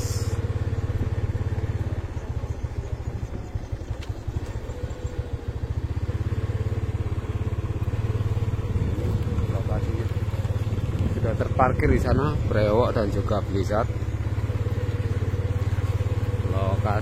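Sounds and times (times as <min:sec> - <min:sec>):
motorcycle engine puttering: 0:00.0 - 0:17.0.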